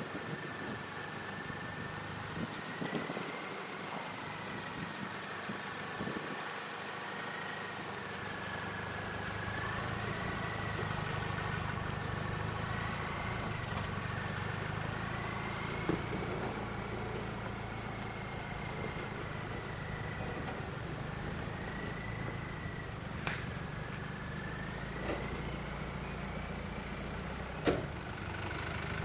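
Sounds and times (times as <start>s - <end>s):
truck engine at low revs: 0.0s - 29.0s.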